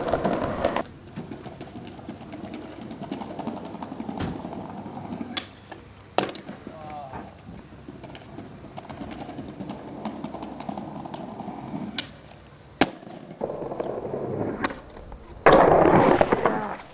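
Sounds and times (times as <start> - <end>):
skateboard sharp crack: 0.0 - 6.7, 7.3 - 16.9
skateboard clicks and knocks: 0.0 - 16.9
skateboard wheels rumbling: 0.0 - 16.9.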